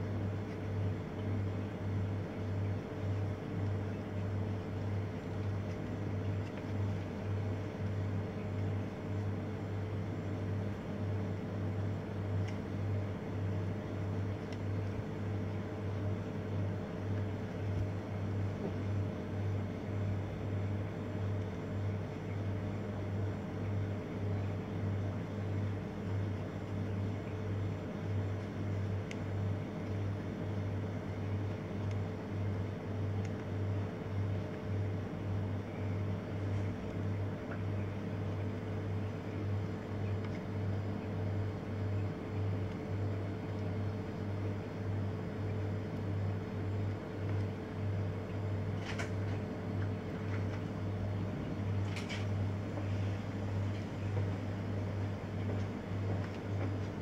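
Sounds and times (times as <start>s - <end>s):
faint steady whine: 0.0s - 57.0s
pulsing low mechanical hum: 0.0s - 57.0s.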